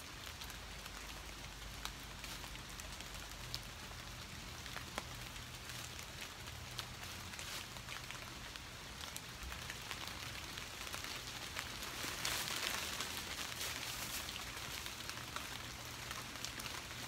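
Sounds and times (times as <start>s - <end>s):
rain on trees and leaves: 0.0s - 17.0s
footsteps through wet leaves: 0.2s - 17.0s.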